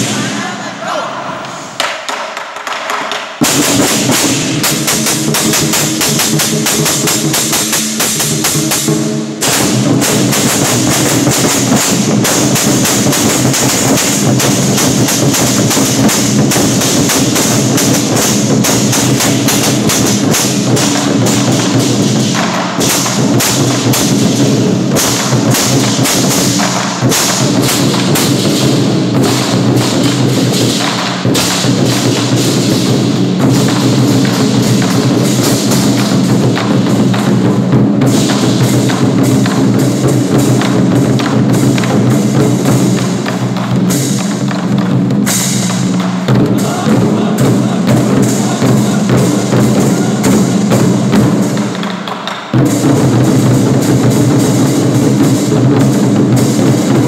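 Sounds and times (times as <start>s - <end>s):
barrel drums beaten fast: 0.0s - 57.0s.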